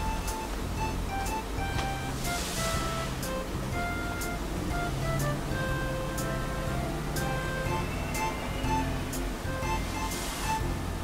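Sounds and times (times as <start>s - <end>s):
light background music: 0.0s - 11.0s.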